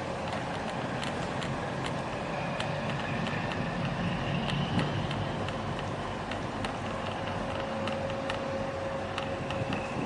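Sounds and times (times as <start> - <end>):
low engine rumble: 0.0 - 10.0
faint clicks: 0.2 - 10.0.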